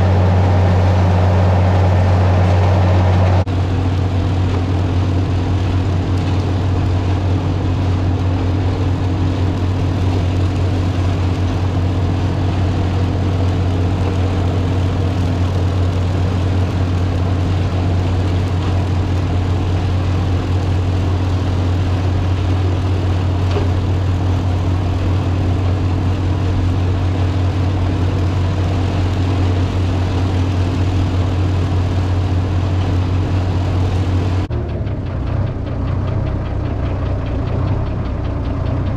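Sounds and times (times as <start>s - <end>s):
tractor and flail chopper hum: 0.0s - 38.9s.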